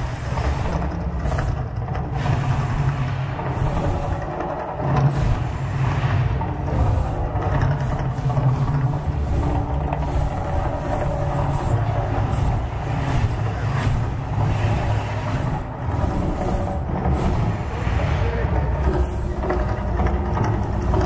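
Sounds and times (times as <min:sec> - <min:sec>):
deep steady rumble: 0:00.0 - 0:21.0.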